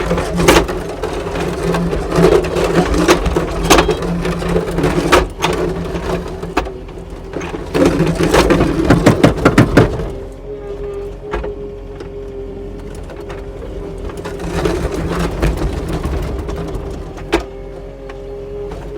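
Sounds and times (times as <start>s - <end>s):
metal clanks and knocks: 0.0s - 10.3s, 12.9s - 18.9s
skid steer engine running: 0.0s - 18.9s.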